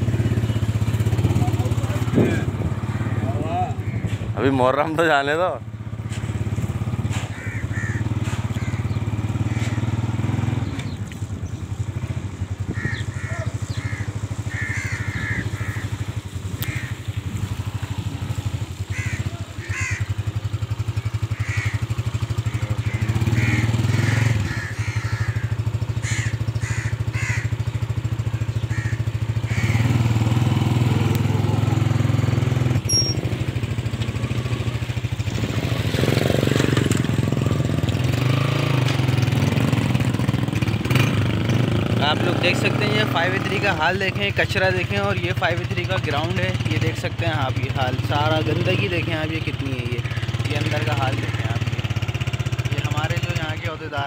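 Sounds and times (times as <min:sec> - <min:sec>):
small motorcycle engine running: 0:00.0 - 0:04.1, 0:05.7 - 0:54.0.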